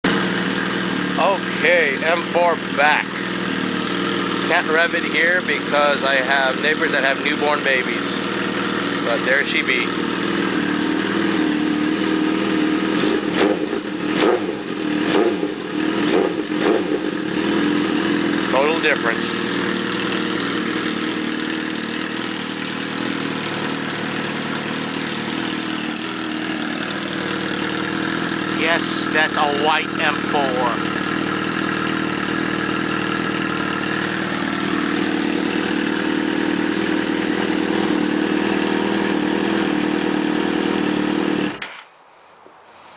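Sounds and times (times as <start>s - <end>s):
motorcycle engine idling with blips: 0.0s - 41.9s.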